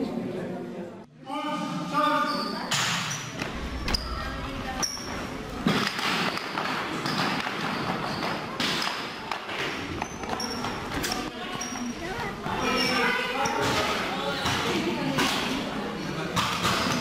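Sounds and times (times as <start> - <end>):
background chatter: 0.0 - 17.0.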